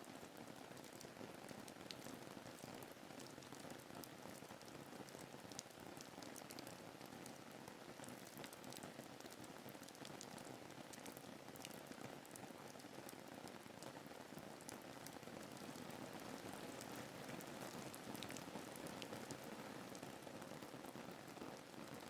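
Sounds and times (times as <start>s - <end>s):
soft rain patter: 0.0s - 22.0s.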